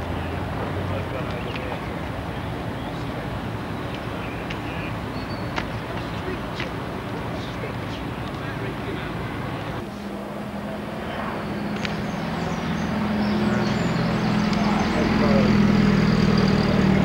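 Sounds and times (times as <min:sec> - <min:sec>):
lorry engines driving past: 0:00.0 - 0:17.0.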